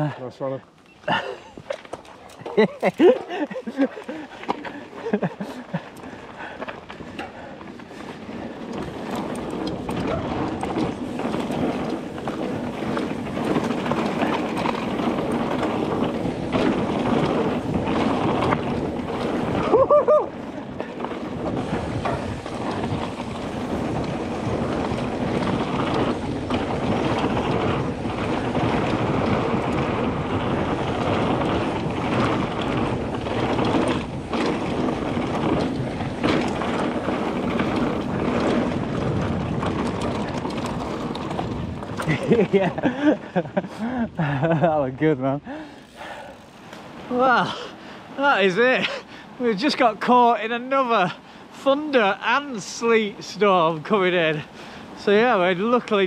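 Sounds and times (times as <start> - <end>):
bike tyres rolling on dirt: 0.0 - 56.0
bike knocks and rattles: 1.1 - 47.9
wind on microphone: 1.1 - 50.0.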